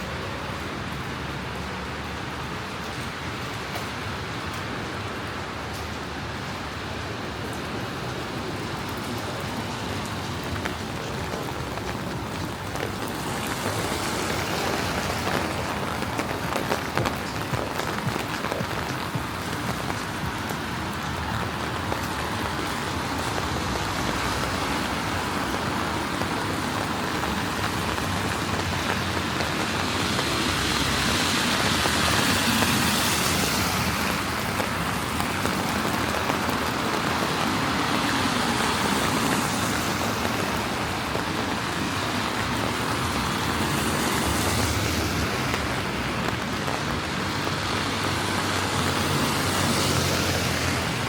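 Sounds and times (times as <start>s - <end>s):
cars passing on wet road: 0.0s - 51.0s
rain on wet street: 0.0s - 51.0s.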